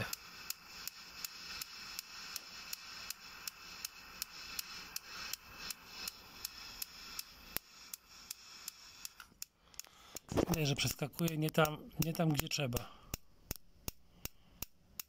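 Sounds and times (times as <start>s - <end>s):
spark igniter snapping: 0.0s - 14.4s.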